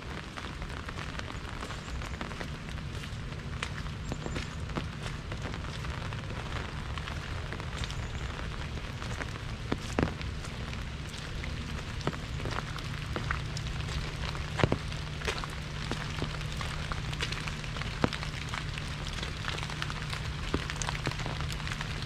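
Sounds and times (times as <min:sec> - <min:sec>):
rain falling on an umbrella: 0:00.0 - 0:22.0.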